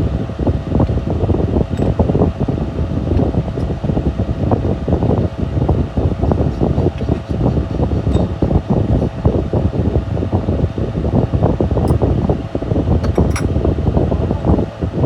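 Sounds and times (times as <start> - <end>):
faint hum: 0.0 - 15.0
fan airflow buffeting microphone: 0.0 - 15.0.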